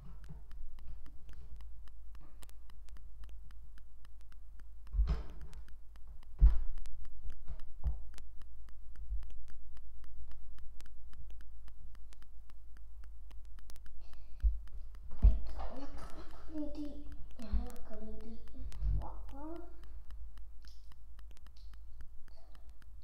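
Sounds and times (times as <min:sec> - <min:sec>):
small plastic clicks: 0:00.0 - 0:23.0.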